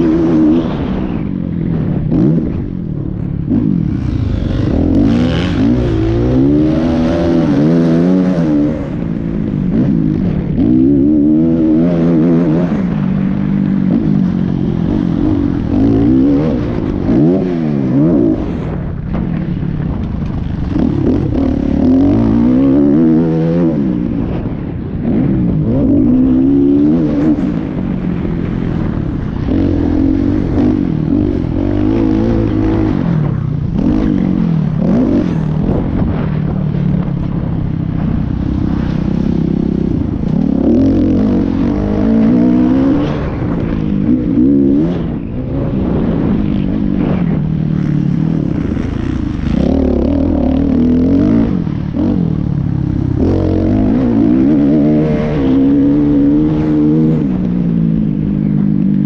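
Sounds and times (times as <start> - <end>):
motocross engine revving: 1.7 - 18.9, 20.2 - 36.3, 38.0 - 57.5.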